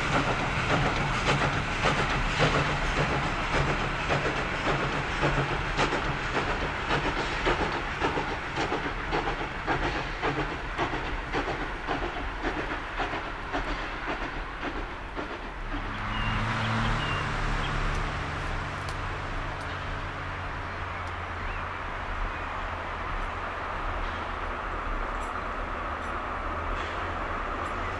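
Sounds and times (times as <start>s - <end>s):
steam hiss: 0.0s - 18.6s, 23.9s - 27.9s
locomotive low hum: 0.0s - 27.9s
train wheels clicking over rail joints: 0.0s - 27.9s.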